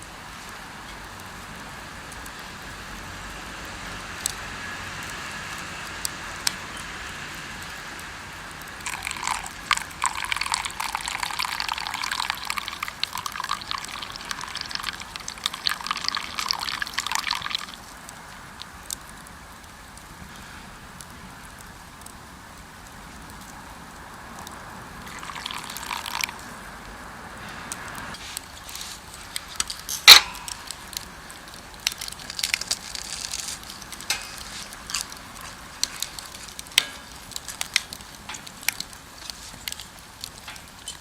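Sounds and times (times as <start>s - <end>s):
campfire crackling and popping: 0.0s - 41.0s
steady hiss: 0.0s - 41.0s.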